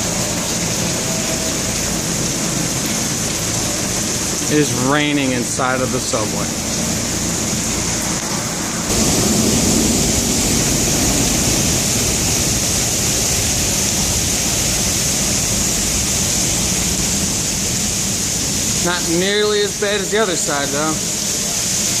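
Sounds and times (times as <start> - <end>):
water pouring and splashing: 0.0 - 22.0.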